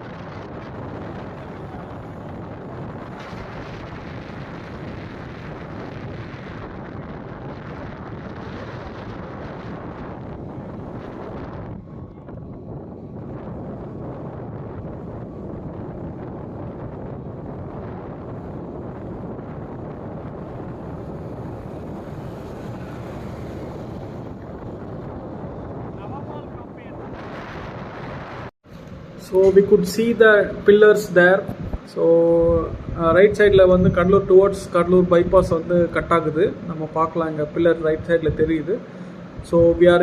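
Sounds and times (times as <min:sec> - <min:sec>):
vehicle road noise: 0:00.0 - 0:40.0
wind buffeting microphone: 0:00.0 - 0:40.0.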